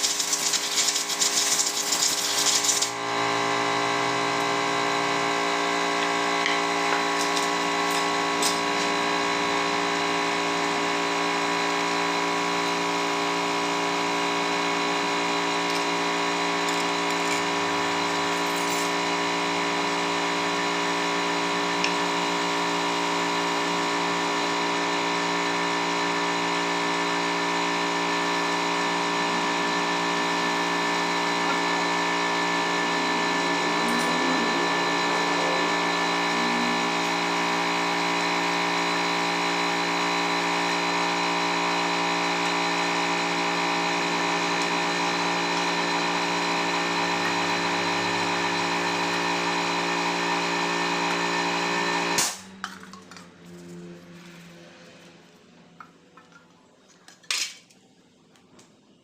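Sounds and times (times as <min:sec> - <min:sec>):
electric power tool motor running: 0:00.0 - 0:52.4.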